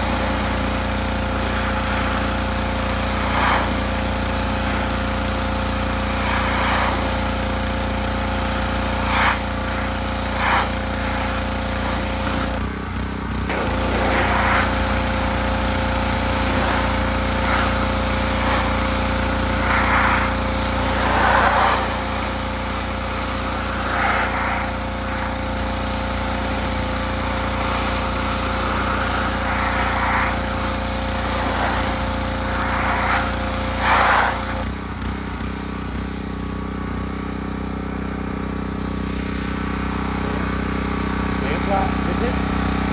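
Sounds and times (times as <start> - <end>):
motor running: 0.0 - 42.9.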